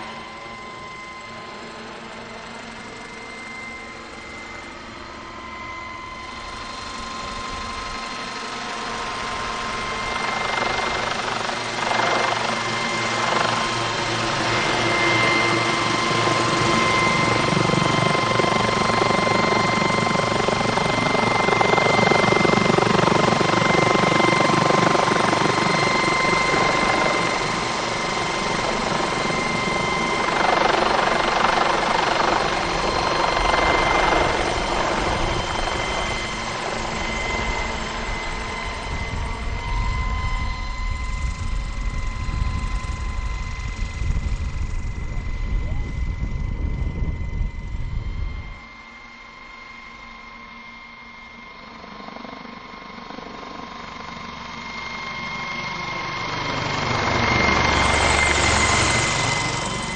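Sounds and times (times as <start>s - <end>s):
model helicopter rotor whine: 0.0s - 59.9s.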